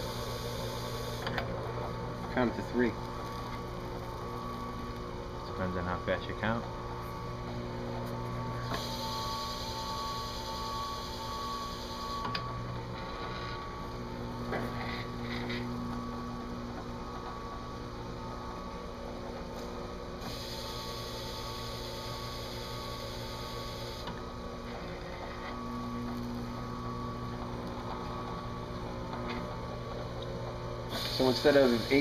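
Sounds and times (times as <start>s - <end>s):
drill press motor hum: 0.0s - 32.0s.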